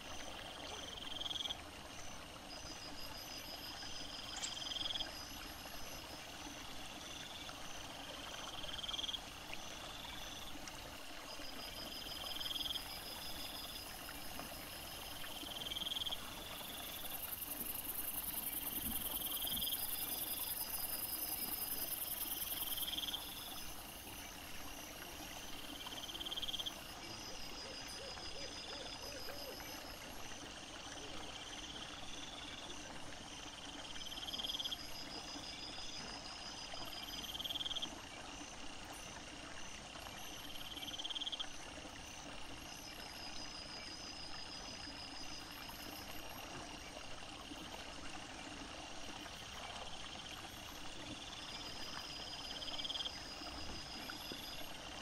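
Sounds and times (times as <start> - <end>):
very high insect hiss: 0.0 - 38.0, 38.9 - 48.0, 48.8 - 55.0.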